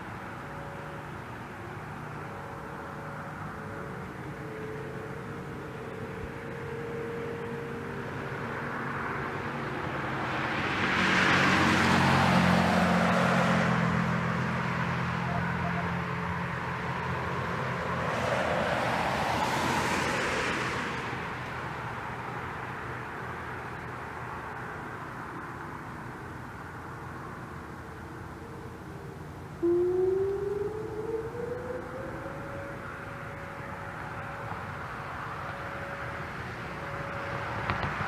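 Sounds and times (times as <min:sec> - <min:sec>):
road vehicles passing: 0:00.0 - 0:38.0.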